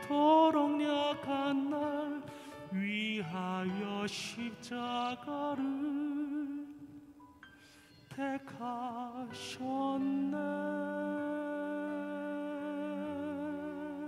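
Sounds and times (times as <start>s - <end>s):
man singing gospel ballad: 0.0s - 7.0s, 8.1s - 14.0s.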